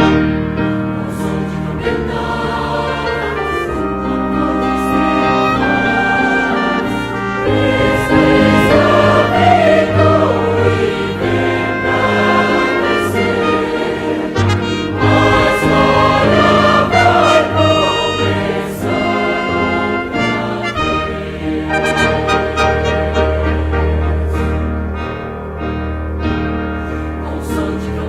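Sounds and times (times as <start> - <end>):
brass ensemble with trumpets: 0.0 - 0.8, 1.7 - 27.0
mixed choir singing a hymn: 0.0 - 28.0.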